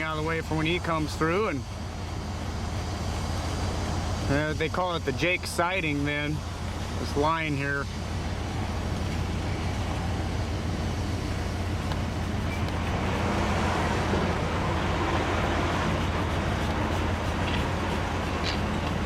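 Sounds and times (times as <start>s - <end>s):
idling engine hum: 0.0s - 19.0s
traffic hiss: 0.0s - 19.0s.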